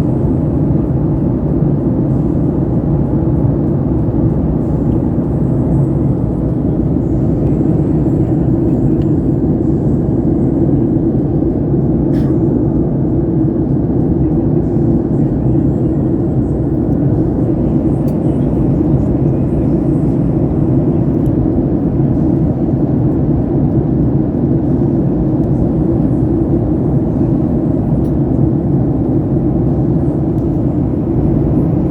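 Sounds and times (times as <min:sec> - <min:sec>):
airplane cabin drone: 0:00.0 - 0:31.9.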